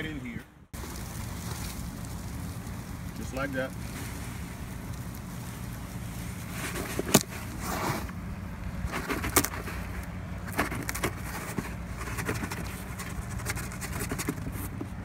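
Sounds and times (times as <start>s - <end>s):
steady low hum: 0.4s - 15.0s
sand pouring: 0.8s - 14.8s.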